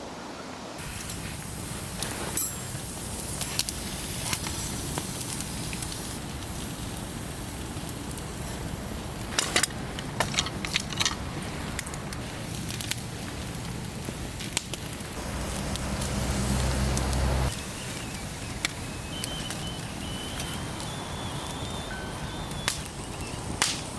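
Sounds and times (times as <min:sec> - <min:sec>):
campfire crackling and popping: 0:00.8 - 0:23.9
low fire rush: 0:00.8 - 0:23.9.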